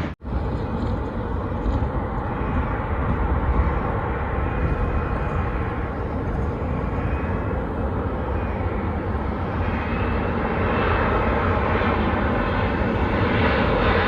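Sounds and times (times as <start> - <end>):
jet engine rumble: 0.0 - 14.0.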